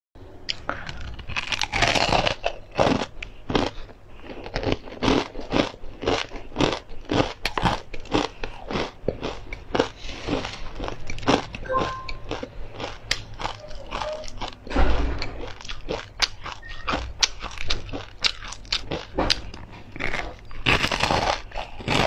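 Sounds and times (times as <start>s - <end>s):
crunchy snack chewing: 0.5s - 22.0s.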